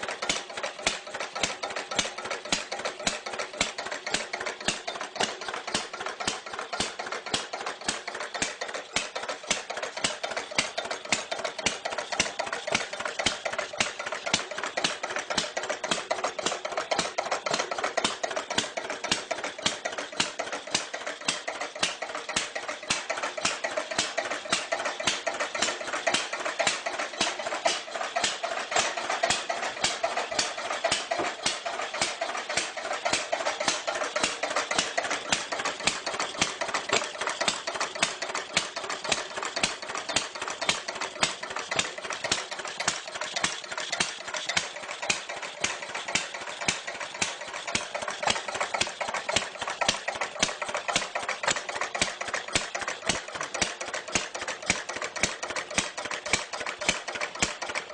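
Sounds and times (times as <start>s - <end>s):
fast ticking clatter: 0.0s - 57.9s
old car engine idling: 0.0s - 57.9s.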